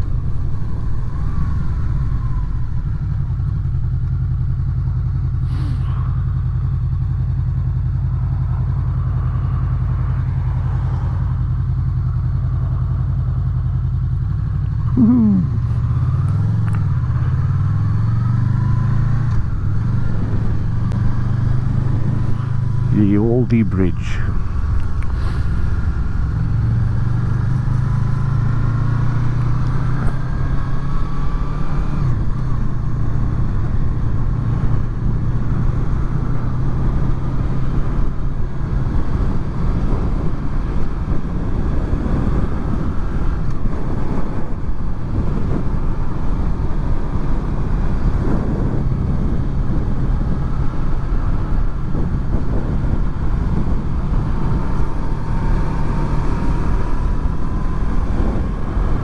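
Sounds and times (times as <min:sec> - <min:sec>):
motorcycle engine running: 0:00.0 - 0:23.0, 0:24.3 - 0:59.0
wind and road rush: 0:00.0 - 0:59.0.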